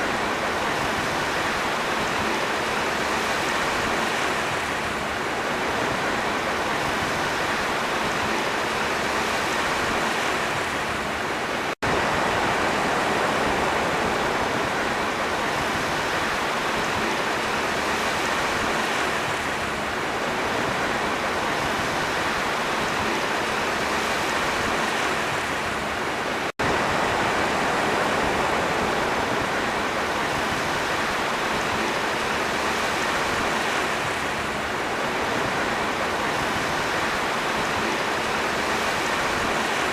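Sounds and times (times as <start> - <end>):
sea waves rushing: 0.0 - 39.9.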